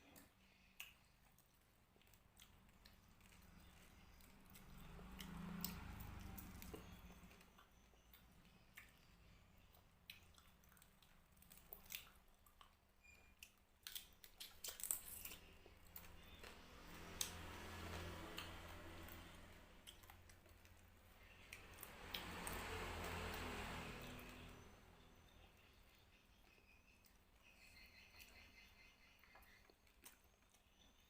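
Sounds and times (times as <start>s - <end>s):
chewing and wet mouth sounds: 0.0s - 24.4s, 29.2s - 31.0s.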